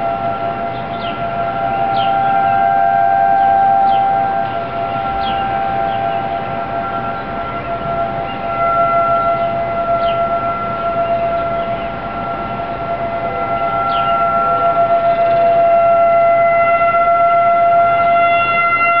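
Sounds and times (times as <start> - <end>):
emergency warning siren: 0.0 - 19.0.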